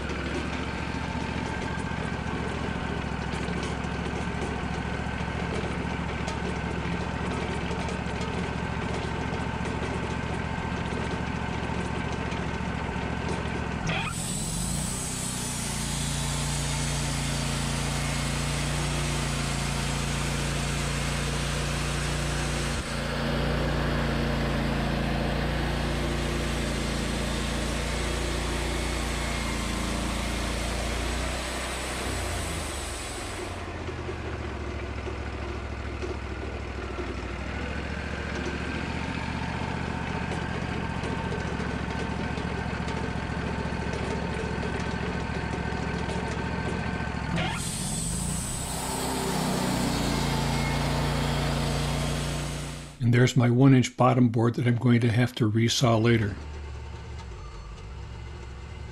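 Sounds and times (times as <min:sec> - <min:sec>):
bandsaw mill engine running: 0:00.0 - 0:53.1, 0:55.8 - 0:58.9.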